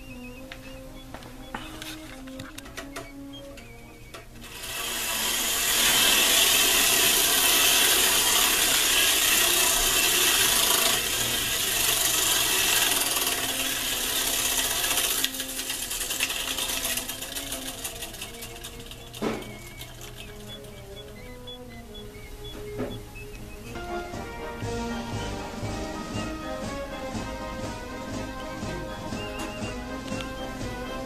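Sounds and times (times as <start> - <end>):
clockwork motor whirring: 0.0 - 31.0.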